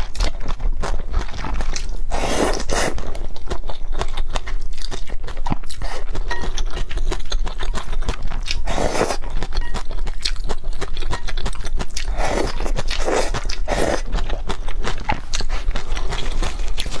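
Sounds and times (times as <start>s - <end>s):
noodles slurped: 0.0s - 4.2s, 4.8s - 17.0s
chewing: 0.0s - 17.0s.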